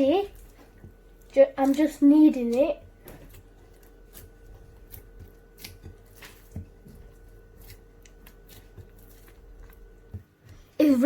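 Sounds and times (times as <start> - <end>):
faint steady hum: 0.0 - 11.0
hands kneading dough: 0.0 - 11.0.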